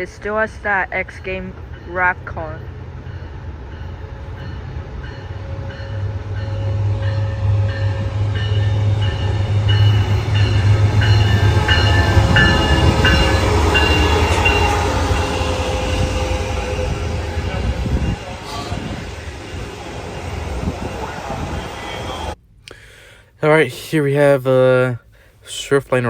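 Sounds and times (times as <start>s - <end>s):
train engine rumble: 0.0s - 22.4s
locomotive bell ringing: 1.1s - 22.4s.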